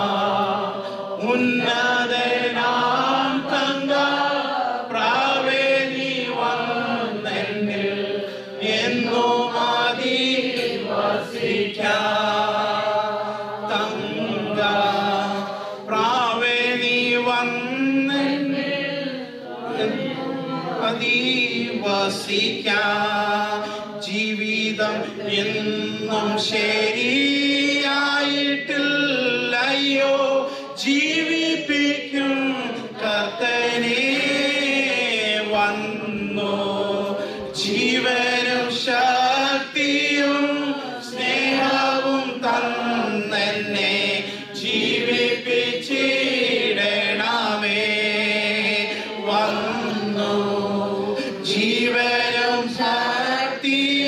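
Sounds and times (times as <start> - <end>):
congregation singing: 0.0 - 54.0.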